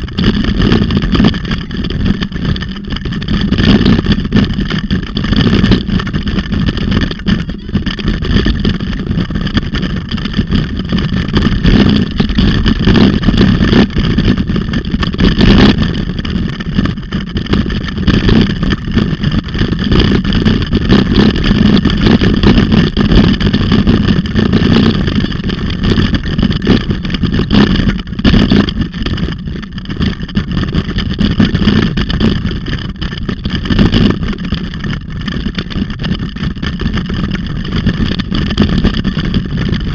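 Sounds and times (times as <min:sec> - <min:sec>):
bicycle rolling on rough dirt: 0:00.0 - 0:39.9
wind buffeting microphone: 0:00.0 - 0:39.9.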